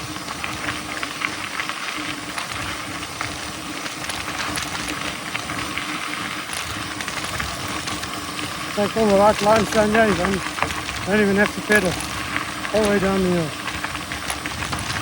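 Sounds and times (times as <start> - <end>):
bike rattles and clicks: 0.0 - 15.0
bike tyres on dirt trail: 0.0 - 15.0.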